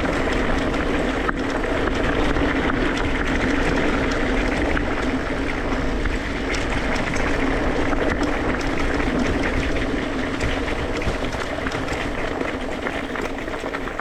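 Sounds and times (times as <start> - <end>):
wind and tyre noise: 0.0 - 14.0.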